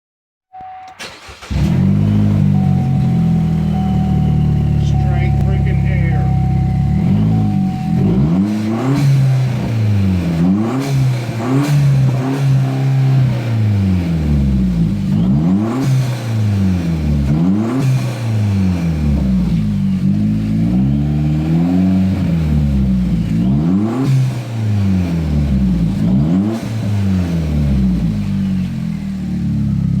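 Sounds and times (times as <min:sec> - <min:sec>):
car engine revving: 0:01.0 - 0:30.0.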